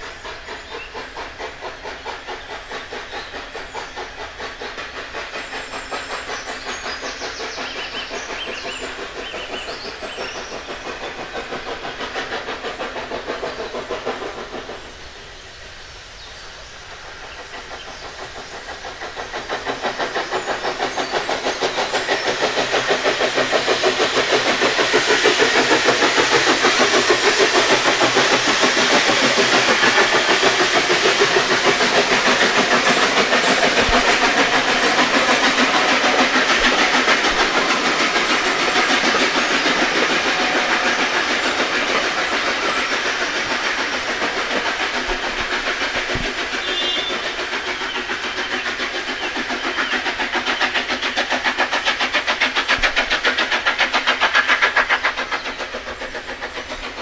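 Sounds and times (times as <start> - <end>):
steam locomotive exhaust beats: 0.0 - 57.0
train coaches rolling by: 0.0 - 57.0.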